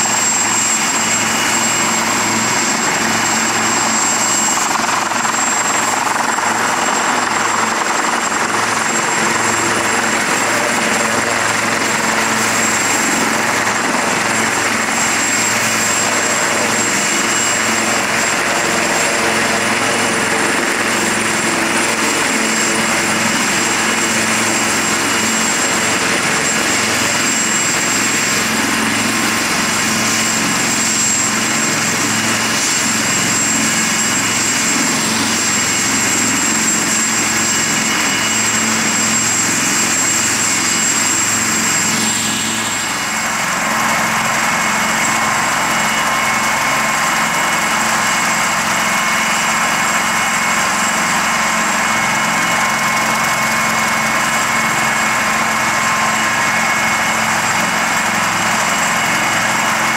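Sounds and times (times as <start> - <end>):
helicopter rotor noise: 0.0 - 59.9
helicopter turbine whine: 0.0 - 59.9.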